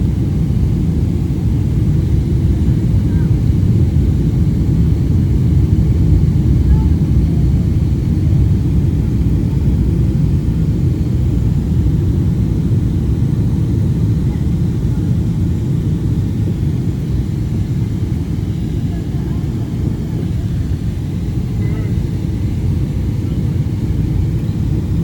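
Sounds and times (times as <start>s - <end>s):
aircraft cabin engine rumble: 0.0s - 25.0s
airflow over fuselage: 0.0s - 25.0s.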